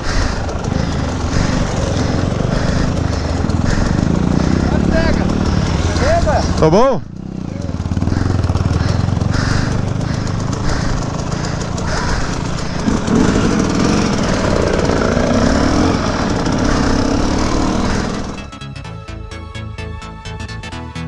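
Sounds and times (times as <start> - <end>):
dirt bike engine revving: 0.0 - 18.6.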